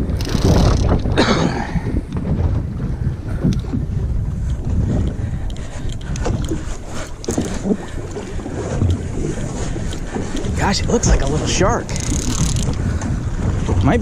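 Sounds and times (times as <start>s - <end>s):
water slapping against boat hull: 0.0s - 1.3s, 2.0s - 14.0s
wind buffeting microphone: 0.0s - 14.0s.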